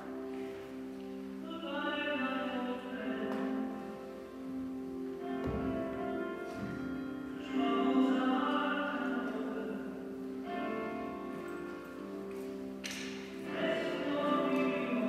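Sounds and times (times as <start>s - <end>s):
slow song with singer: 0.0s - 15.0s.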